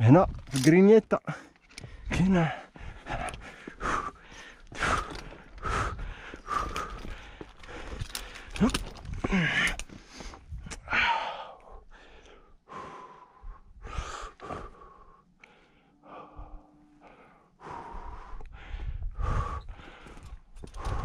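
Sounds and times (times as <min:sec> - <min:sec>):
person breathing heavily: 0:01.3 - 0:21.0.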